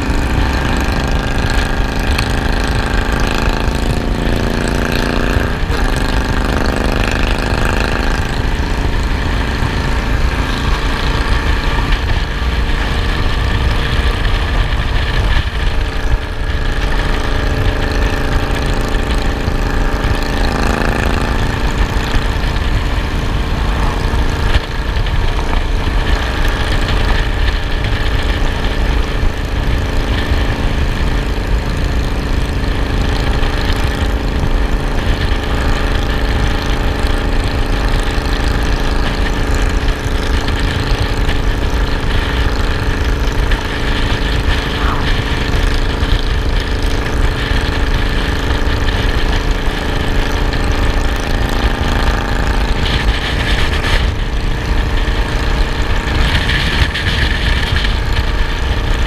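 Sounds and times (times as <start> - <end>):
motorcycle engine running: 0.0 - 59.0
wind buffeting on microphone: 7.2 - 59.0.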